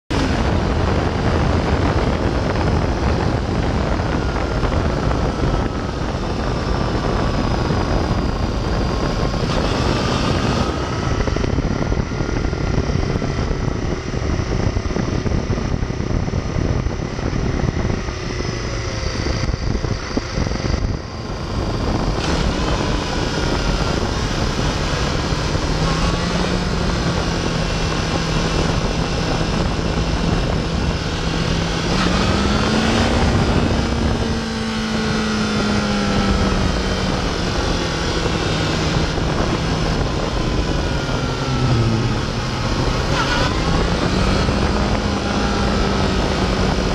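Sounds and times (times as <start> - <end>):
motorcycle engine running: 0.1 - 46.9
wind rushing on microphone: 0.1 - 46.9.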